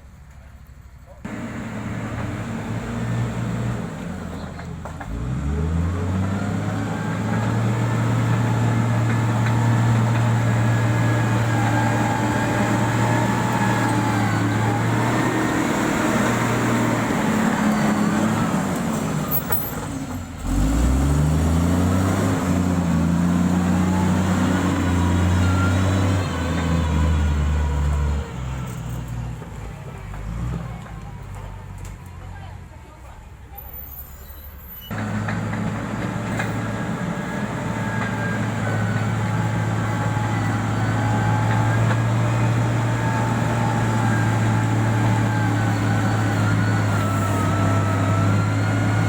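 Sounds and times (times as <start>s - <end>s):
diesel engine revving: 1.2s - 31.8s, 34.9s - 49.0s.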